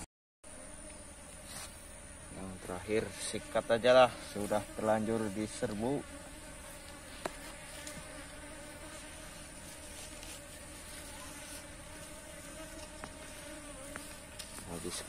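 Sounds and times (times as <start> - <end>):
bees buzzing: 0.5 - 15.0.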